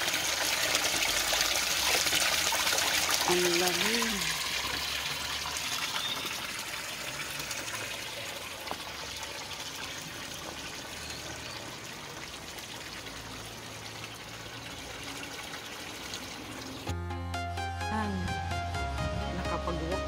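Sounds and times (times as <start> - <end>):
water pouring from spout pipe: 0.0 - 16.9
water splashing into stone basin: 0.0 - 16.9.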